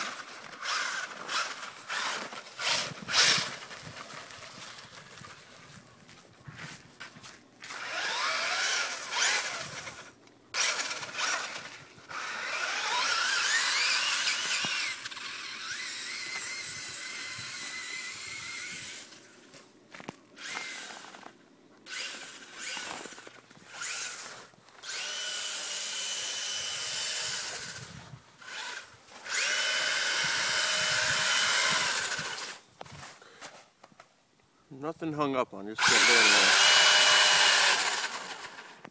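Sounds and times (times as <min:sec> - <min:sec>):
rc truck electric motor whining: 0:00.0 - 0:05.3, 0:07.6 - 0:19.3, 0:20.4 - 0:32.6, 0:35.8 - 0:38.9.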